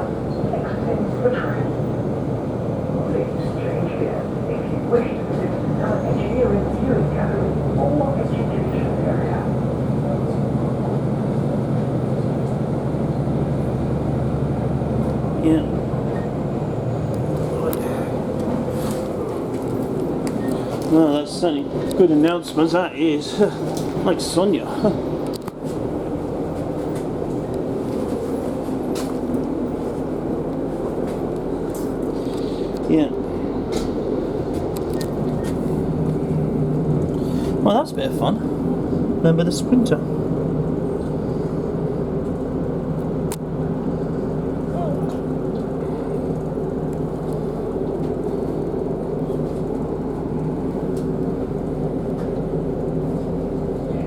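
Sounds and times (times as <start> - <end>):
diesel train humming: 0.0 - 54.0.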